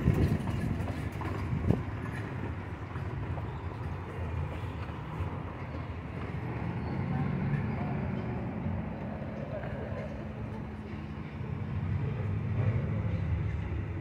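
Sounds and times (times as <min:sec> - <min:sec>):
carriage rolling rumble: 0:00.0 - 0:14.0.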